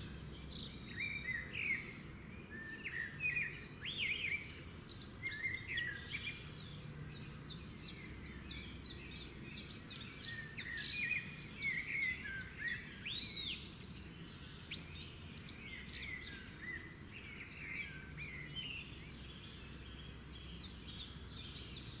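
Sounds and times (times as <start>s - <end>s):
low background noise: 0.0s - 22.0s
small birds chirping: 0.0s - 22.0s.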